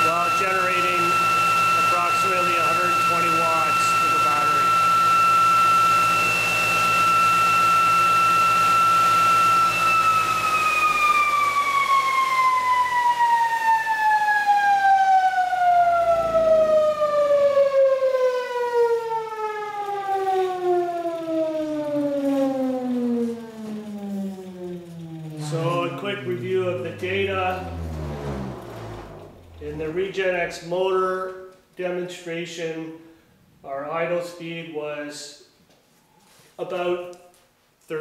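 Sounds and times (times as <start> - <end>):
motor and generator whining: 0.0 - 30.6.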